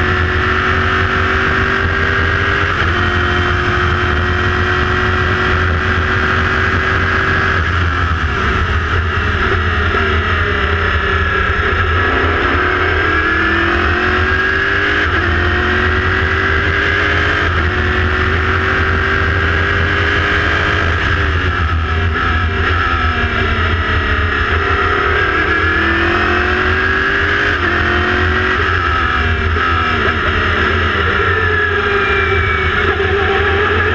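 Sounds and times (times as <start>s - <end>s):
race car engine accelerating: 0.0s - 33.9s.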